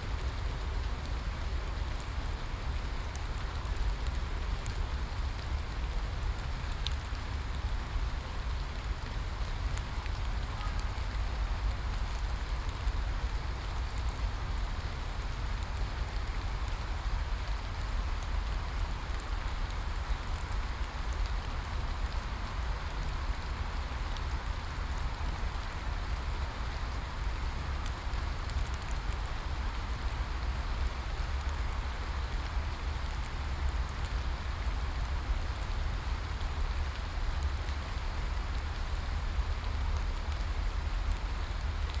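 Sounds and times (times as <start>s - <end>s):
rain pattering on a surface: 0.0s - 42.0s.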